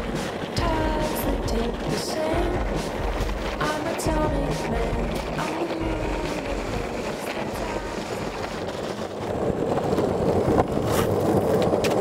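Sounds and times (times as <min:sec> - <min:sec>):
longboard wheels rolling on asphalt: 0:00.0 - 0:12.0.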